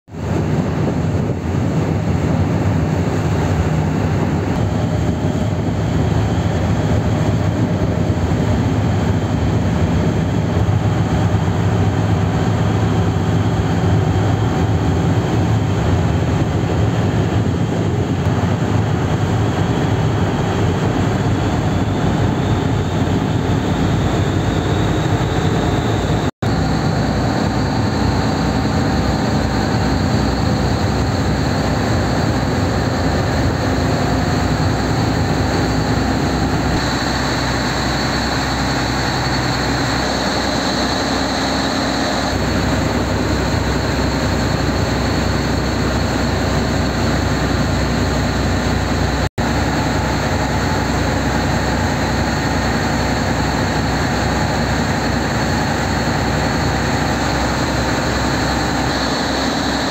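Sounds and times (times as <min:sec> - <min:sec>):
ferry engine drone: 0:00.1 - 0:59.9
wind: 0:00.1 - 0:59.9
water rushing: 0:00.2 - 0:59.9.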